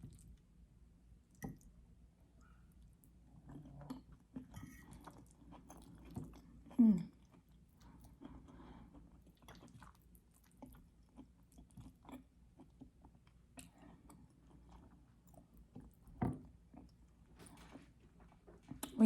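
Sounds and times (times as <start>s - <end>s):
chewing food: 2.4s - 19.0s.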